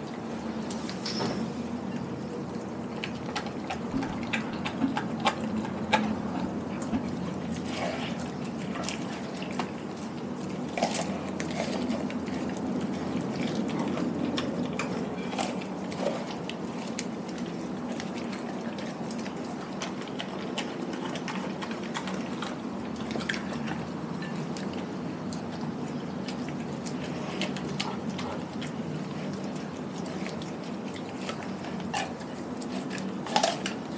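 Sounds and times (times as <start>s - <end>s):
steady low hum: 0.0s - 33.9s
dog licking and chewing: 1.8s - 33.9s.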